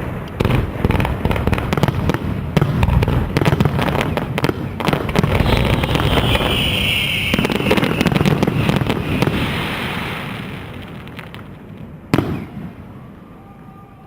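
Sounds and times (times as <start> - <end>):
fireworks bangs and crackling: 0.0 - 13.2.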